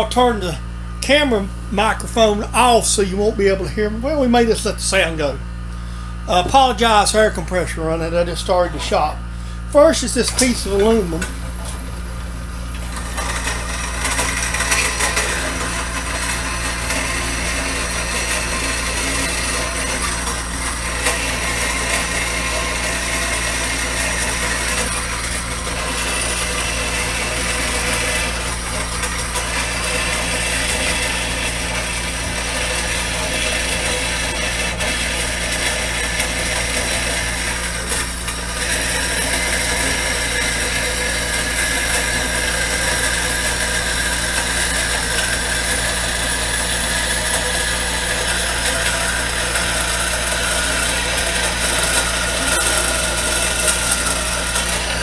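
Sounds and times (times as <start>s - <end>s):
air compressor running: 0.0s - 55.0s
band saw cutting metal: 0.0s - 55.0s.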